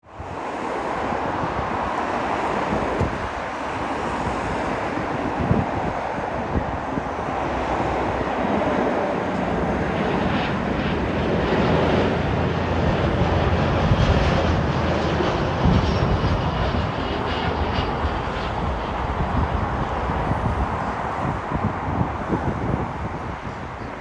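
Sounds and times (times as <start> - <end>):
wind buffeting microphone: 0.0 - 24.0
jet engines running: 0.1 - 24.0.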